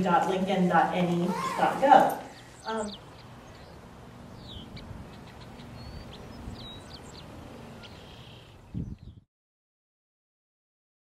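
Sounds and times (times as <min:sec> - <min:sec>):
low steady background hum: 0:00.0 - 0:09.1.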